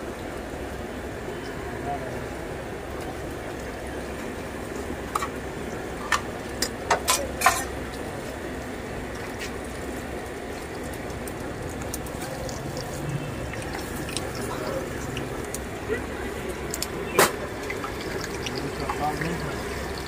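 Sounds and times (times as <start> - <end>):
hot oil sizzling and bubbling: 2.4 - 20.0.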